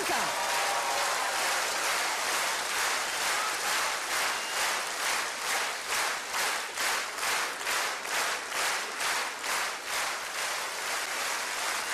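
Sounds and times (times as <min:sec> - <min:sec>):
audience clapping in unison: 0:00.0 - 0:11.9.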